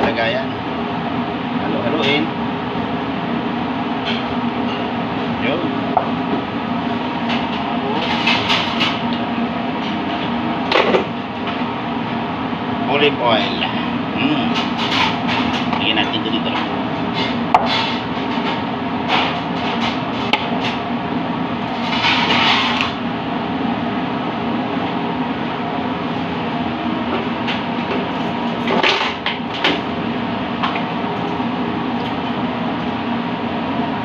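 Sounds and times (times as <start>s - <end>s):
kitchen ventilation running: 0.0s - 34.0s.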